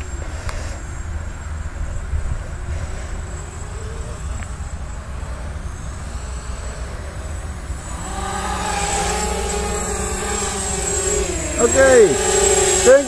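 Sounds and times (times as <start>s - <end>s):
drone motors whining: 0.0s - 13.0s
steady low rumble: 0.0s - 13.0s.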